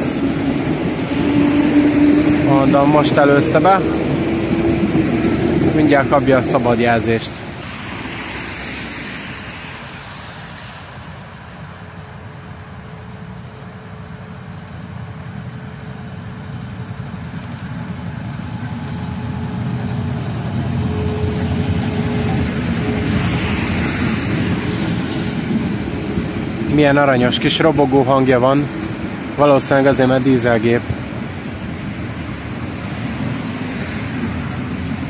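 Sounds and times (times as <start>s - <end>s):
diesel locomotive engine running: 0.0s - 35.0s.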